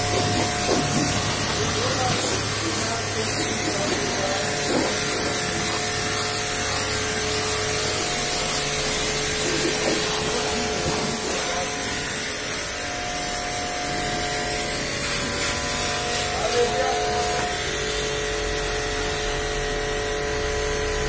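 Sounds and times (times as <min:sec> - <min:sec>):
pressure washer spray hissing: 0:00.0 - 0:17.6
washer motor humming: 0:00.0 - 0:19.2.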